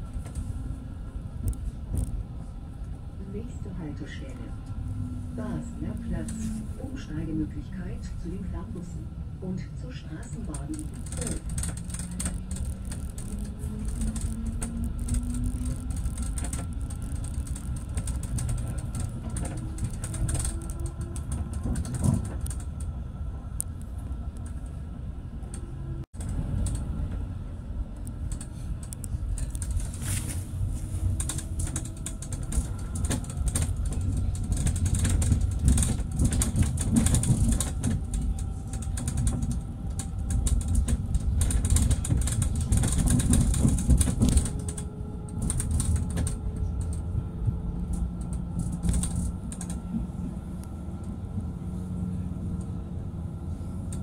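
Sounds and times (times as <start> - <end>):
creaks and clicks from tram car: 0.0 - 54.0
tram rumbling on rails: 0.0 - 54.0.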